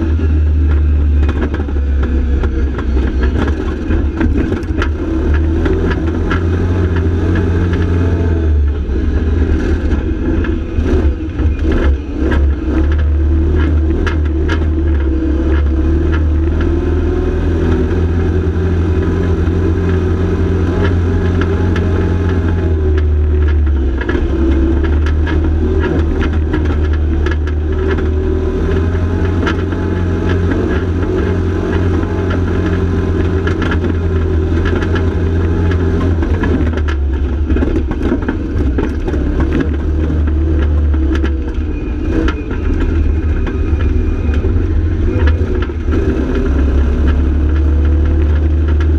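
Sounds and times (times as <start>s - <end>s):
utility vehicle engine running: 0.0s - 48.9s
vehicle knocks and rattles: 0.0s - 48.9s.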